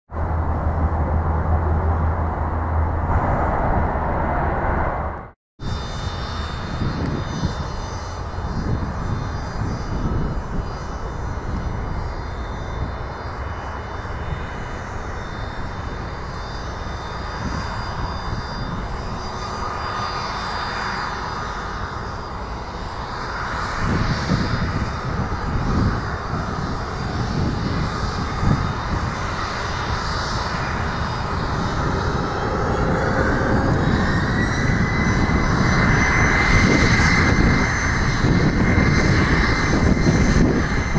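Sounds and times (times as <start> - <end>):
jet engines whining: 0.1 - 40.9.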